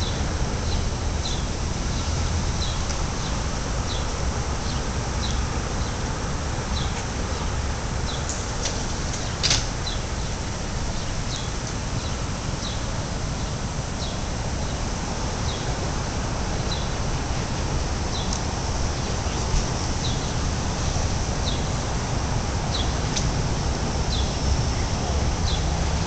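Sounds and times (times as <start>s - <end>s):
street background rumble: 0.0s - 26.0s.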